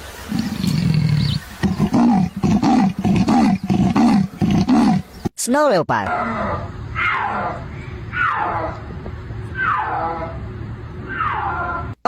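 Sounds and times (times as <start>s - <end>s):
leopard calling: 0.3s - 5.3s, 6.1s - 12.0s.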